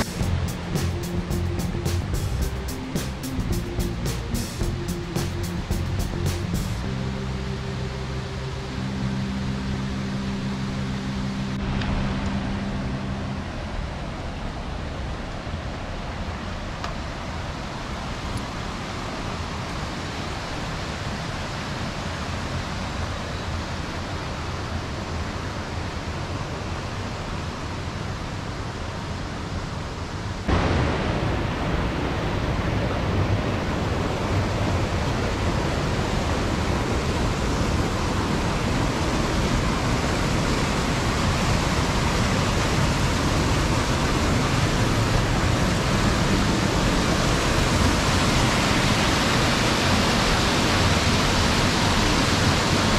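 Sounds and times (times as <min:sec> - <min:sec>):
stream rushing over waterfalls: 0:00.0 - 0:52.9.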